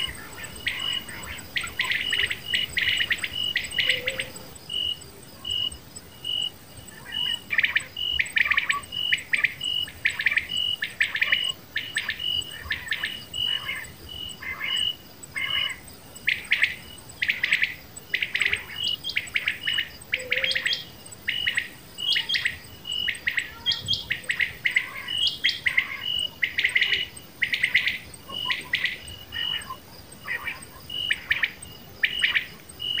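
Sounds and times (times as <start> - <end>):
quail calling: 0.0 - 4.5, 7.0 - 33.0.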